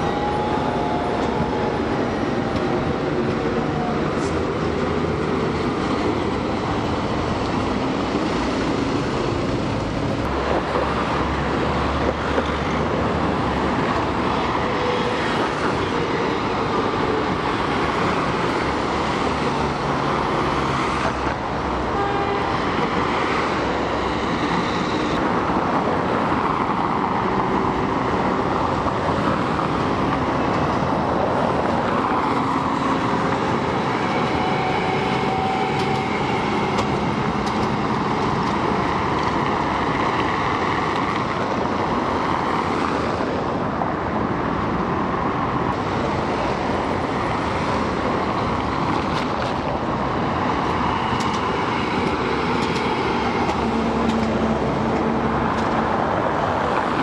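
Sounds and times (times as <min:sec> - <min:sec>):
buses going by: 0:00.0 - 0:57.0
cars going by: 0:00.0 - 0:57.0
trams going by: 0:00.0 - 0:57.0.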